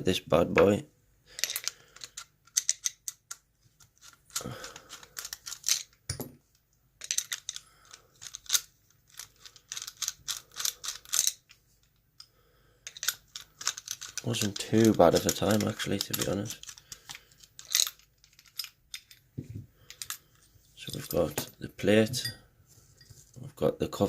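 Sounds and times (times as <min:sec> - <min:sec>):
padlock parts clicking and rattling: 0:01.3 - 0:06.4, 0:07.0 - 0:21.6.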